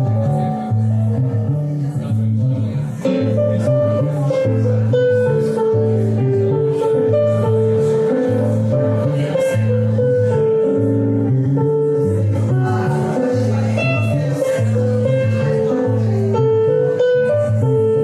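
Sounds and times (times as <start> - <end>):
electric bass long low notes: 0.0 - 18.0
electronic keyboard melody: 0.0 - 18.0.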